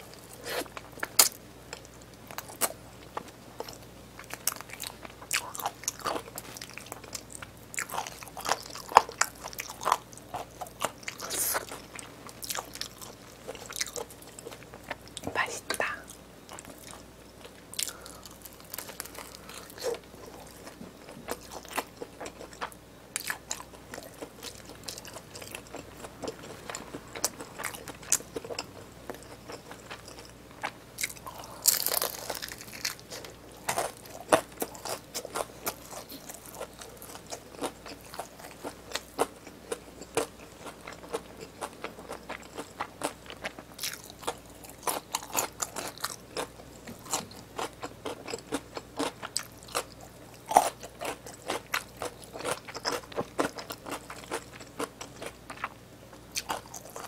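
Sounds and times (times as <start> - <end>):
crunching and chewing fried chicken: 0.0 - 57.0.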